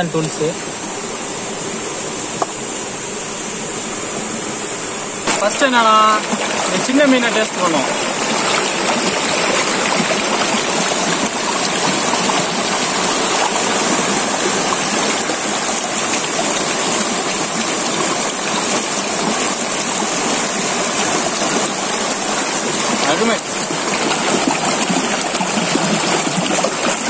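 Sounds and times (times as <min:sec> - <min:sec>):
river water rushing over rocks: 0:04.8 - 0:27.0.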